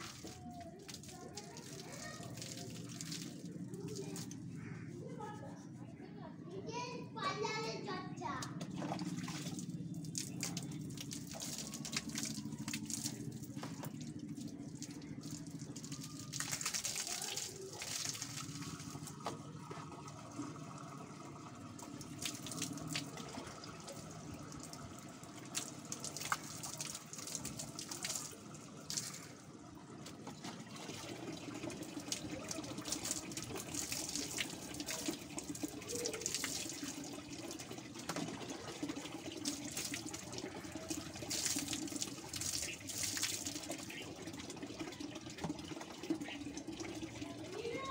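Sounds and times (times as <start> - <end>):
water poured from mug: 0.0 - 4.6, 8.7 - 47.4
water sloshing in plastic tub: 8.4 - 47.9.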